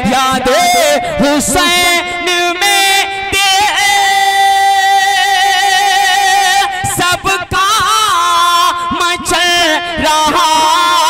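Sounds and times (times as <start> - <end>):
man singing devotional poem: 0.0 - 11.0.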